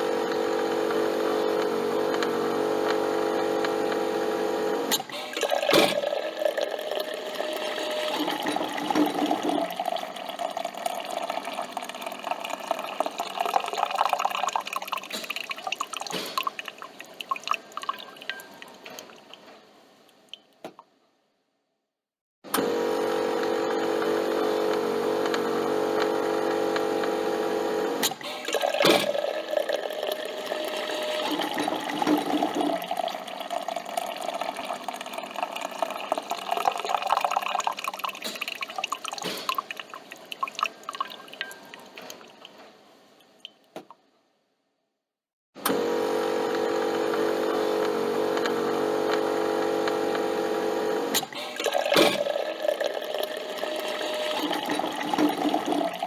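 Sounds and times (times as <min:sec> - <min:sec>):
coffee machine pump humming: 0:00.0 - 0:16.1, 0:22.5 - 0:41.9, 0:45.6 - 0:56.0
coffee streaming and dripping: 0:00.0 - 0:20.8, 0:22.8 - 0:43.9, 0:46.0 - 0:56.0.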